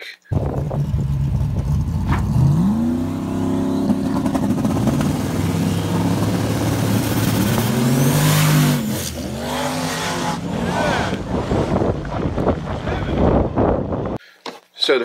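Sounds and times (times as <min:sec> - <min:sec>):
engine revving: 0:00.3 - 0:14.2.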